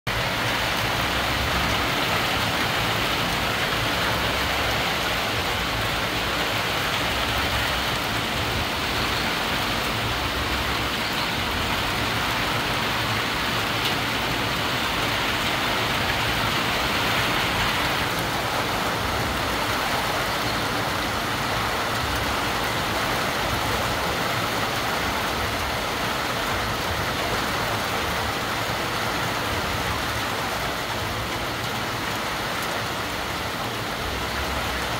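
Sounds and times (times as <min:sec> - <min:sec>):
heavy rain on foliage and roofs: 0:00.1 - 0:34.9.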